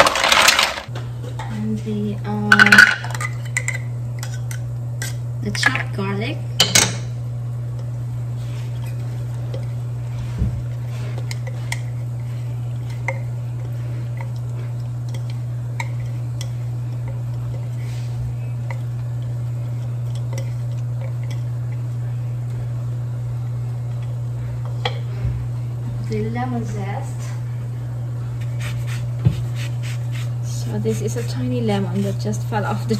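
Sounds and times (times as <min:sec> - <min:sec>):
low hum: 0:00.0 - 0:32.9.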